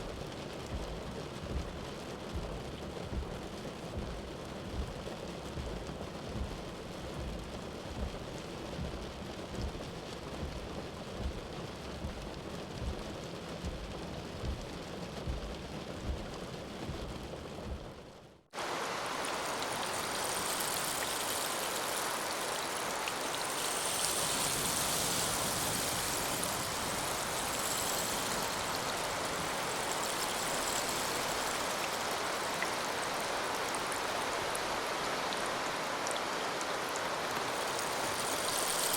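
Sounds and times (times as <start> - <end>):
bright hiss of rain: 0.0 - 38.9
low rumbling rain: 0.0 - 38.9.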